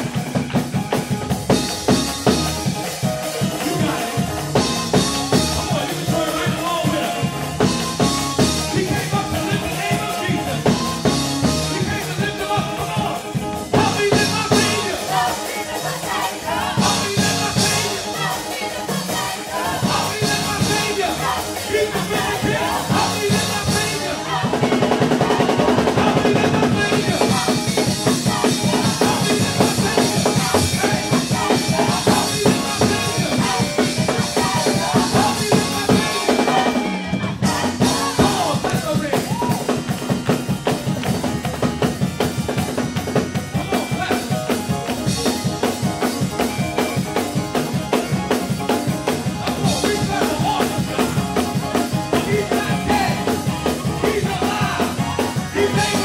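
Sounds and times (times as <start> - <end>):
drum kit beat: 0.0 - 56.0
keyboard: 0.0 - 56.0
group singing: 1.6 - 40.1, 45.0 - 56.0.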